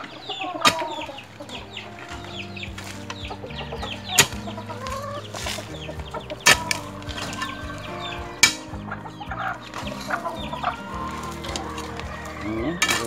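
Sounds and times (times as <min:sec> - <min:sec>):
chickens clucking: 0:00.0 - 0:13.0
high falling chirps: 0:00.0 - 0:13.0
metal bar striking soil: 0:00.6 - 0:01.1, 0:02.0 - 0:13.0.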